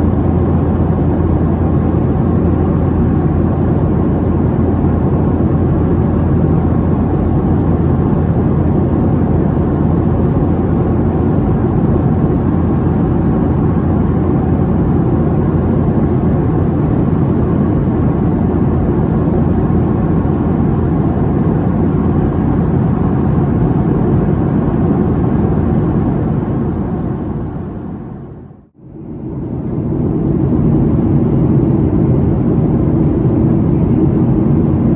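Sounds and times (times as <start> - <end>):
airplane cabin drone: 0.0 - 34.9.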